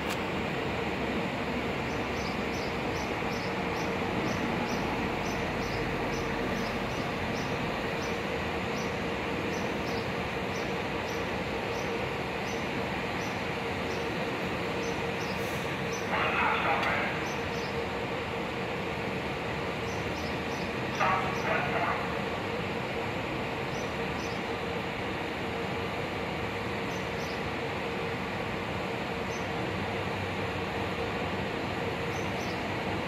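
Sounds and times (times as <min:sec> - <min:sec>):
electric train running: 0:00.0 - 0:33.0.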